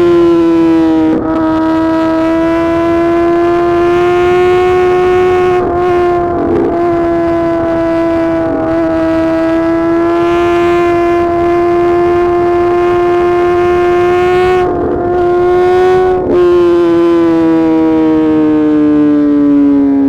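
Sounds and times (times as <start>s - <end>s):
motorcycle engine howling: 0.0s - 20.0s.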